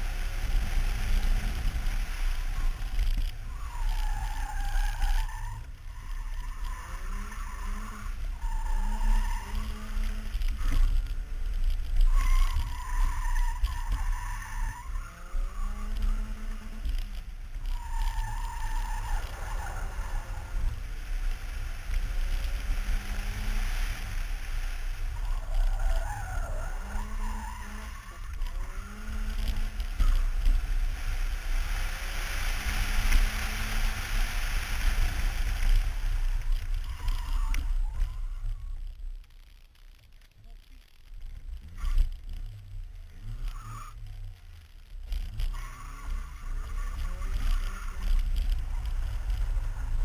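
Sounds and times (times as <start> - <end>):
car engine revving: 0.0 - 39.0, 40.9 - 50.0
tyre and road noise: 0.0 - 50.0.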